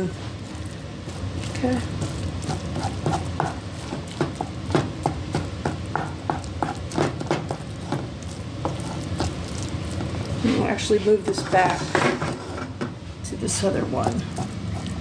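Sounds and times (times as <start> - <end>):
wooden spoon scraping a frying pan: 0.0 - 12.8.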